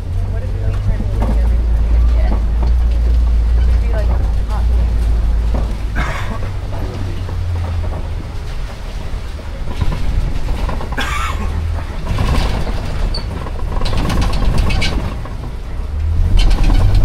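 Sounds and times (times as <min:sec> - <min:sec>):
truck engine low rumble: 0:00.0 - 0:17.0
vehicle rattling and clattering: 0:00.0 - 0:17.0.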